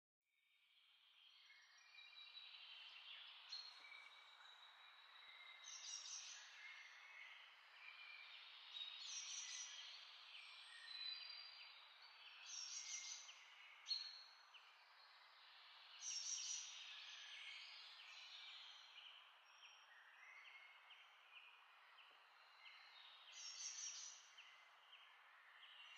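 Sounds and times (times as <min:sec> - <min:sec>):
faint bird chirps: 0:00.7 - 0:25.9.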